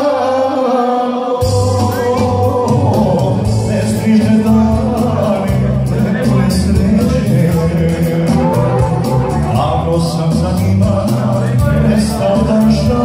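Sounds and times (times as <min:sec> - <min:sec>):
man singing into a microphone: 0:00.0 - 0:13.0
backing music with low beat: 0:01.4 - 0:13.0.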